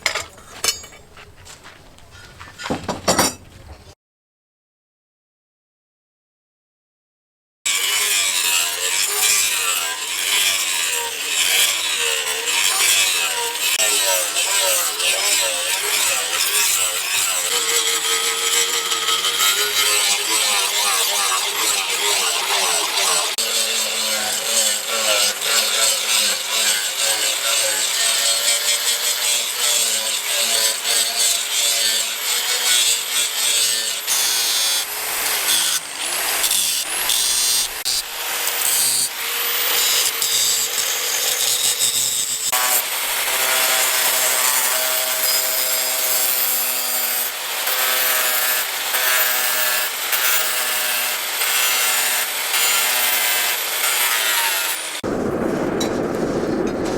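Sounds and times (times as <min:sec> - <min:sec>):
tool sawing or grinding: 0:00.0 - 0:04.0, 0:07.7 - 0:55.1.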